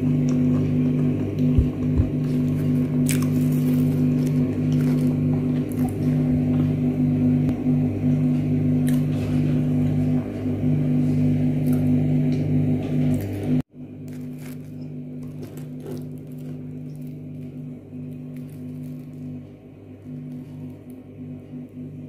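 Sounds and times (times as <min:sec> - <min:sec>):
low droning music: 0:00.0 - 0:22.0.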